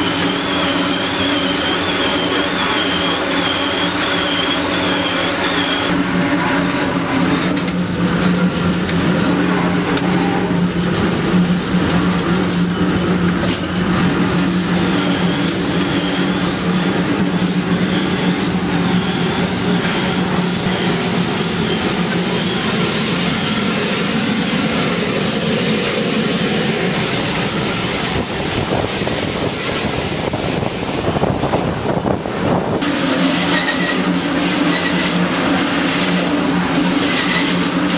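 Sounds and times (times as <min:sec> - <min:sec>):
regular locomotive beat: 0:00.0 - 0:37.9
steam locomotive rumble and hiss: 0:00.0 - 0:37.9.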